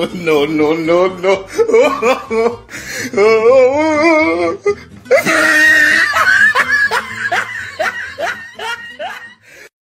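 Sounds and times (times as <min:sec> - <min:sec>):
person laughing: 0:01.3 - 0:09.7.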